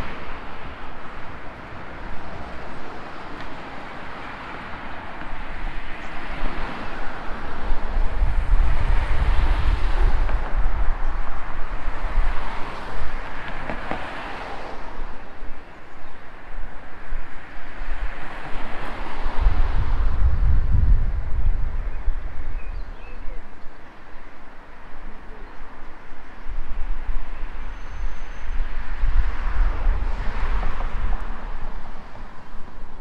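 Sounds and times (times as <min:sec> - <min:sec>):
outdoor rushing noise: 0:00.0 - 0:22.6, 0:26.3 - 0:33.0
wind buffeting microphone: 0:00.0 - 0:23.8, 0:24.9 - 0:33.0.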